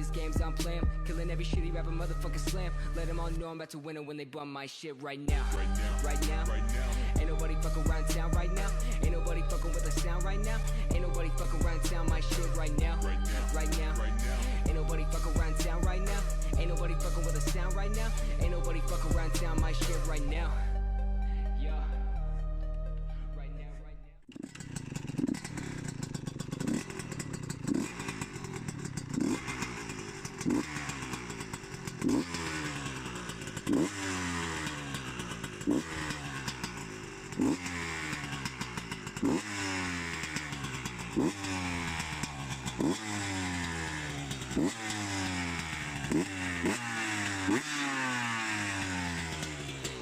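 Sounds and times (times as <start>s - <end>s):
motorcycle engine revving: 0.0s - 3.5s, 5.3s - 20.9s, 24.3s - 50.0s.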